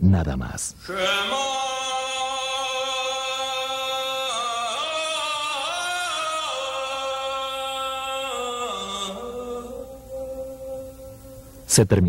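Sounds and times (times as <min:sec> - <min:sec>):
slow chant-like singing: 0:00.9 - 0:11.7.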